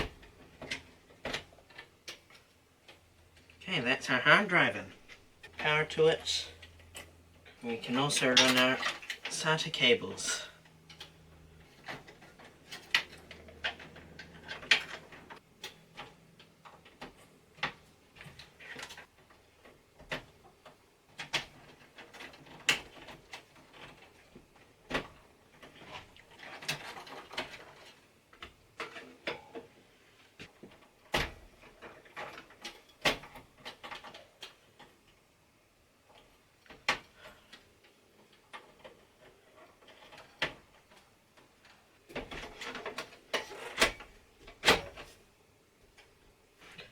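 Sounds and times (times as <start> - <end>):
cables rustling: 0.0 - 46.9.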